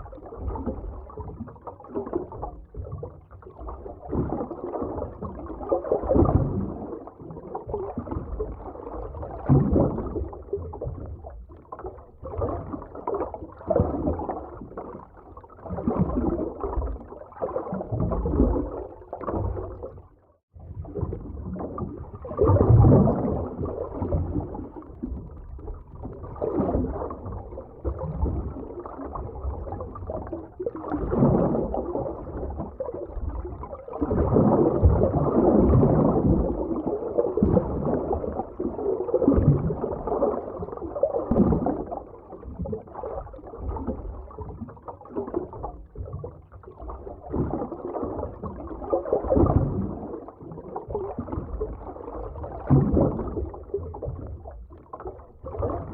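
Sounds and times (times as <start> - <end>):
muffled underwater rushing water: 0.0 - 55.9.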